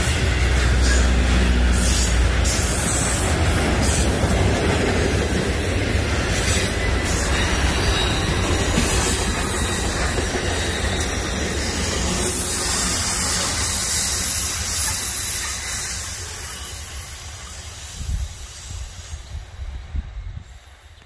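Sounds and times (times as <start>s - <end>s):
freight train wheels rumbling: 0.0s - 21.0s
train hiss: 0.0s - 21.0s.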